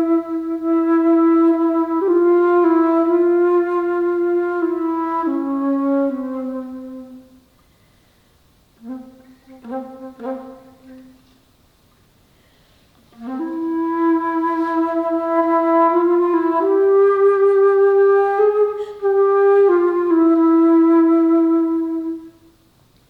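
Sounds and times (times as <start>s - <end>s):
solo alto flute: 0.0s - 7.5s, 8.8s - 11.4s, 13.0s - 22.7s.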